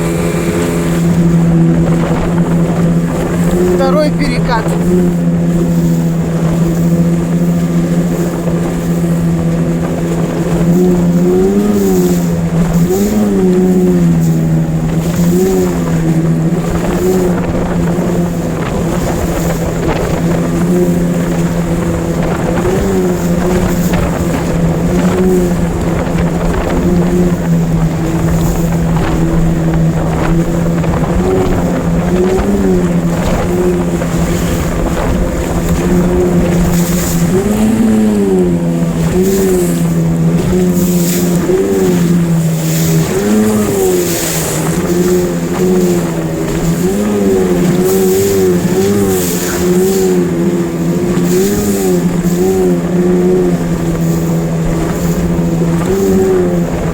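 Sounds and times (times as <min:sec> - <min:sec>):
outboard motor running: 0:00.0 - 0:56.9.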